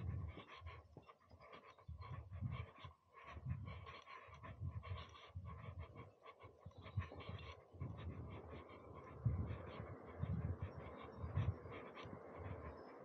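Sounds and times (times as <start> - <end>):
wind buffeting microphone: 0.0 - 1.0, 1.8 - 2.7, 3.3 - 6.0, 6.6 - 13.0.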